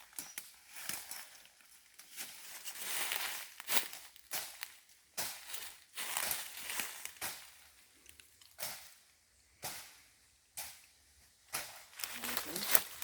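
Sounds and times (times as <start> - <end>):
footsteps crunching through dry leaves: 0.0 - 9.0, 11.5 - 13.0.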